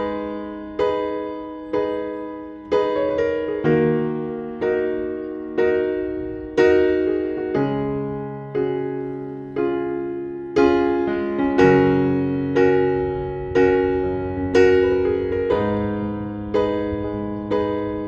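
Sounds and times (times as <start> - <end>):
slow electric piano chords: 0.0 - 18.0.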